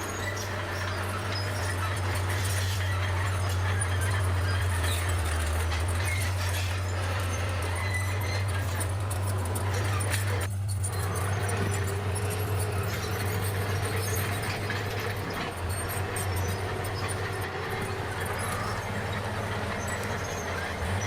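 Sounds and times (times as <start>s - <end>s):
diesel engine droning: 0.0s - 21.0s
steel crawler tracks clattering: 0.0s - 21.0s.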